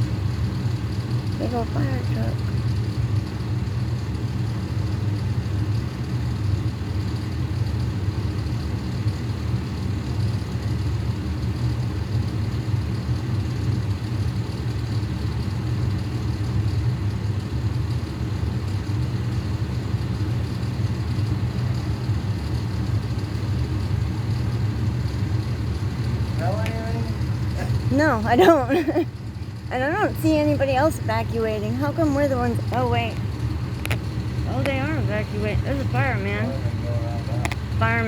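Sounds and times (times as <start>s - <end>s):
fire truck engine idling: 0.0s - 38.0s.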